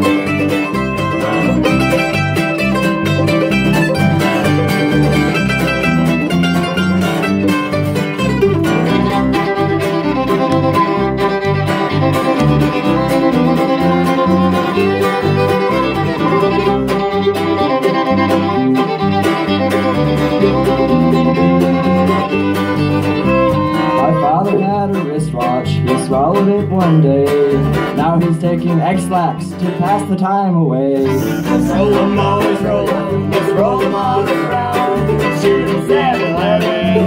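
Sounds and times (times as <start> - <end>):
fiddle leading: 0.0 - 30.2, 30.8 - 37.0
mandolin: 0.0 - 37.0
strummed acoustic guitar: 0.0 - 37.0.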